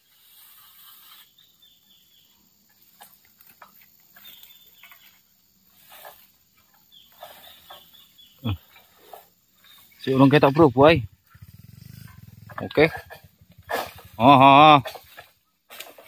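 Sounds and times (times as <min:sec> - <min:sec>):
rustling and scraping of fronds: 0:00.0 - 0:16.0.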